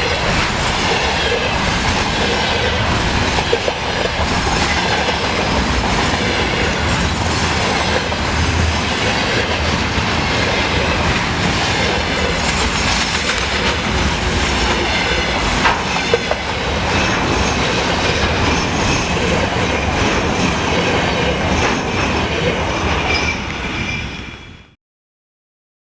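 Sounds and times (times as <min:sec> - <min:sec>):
wheels clacking over rail joints: 0:00.0 - 0:23.8
freight train rumbling past: 0:00.0 - 0:24.8.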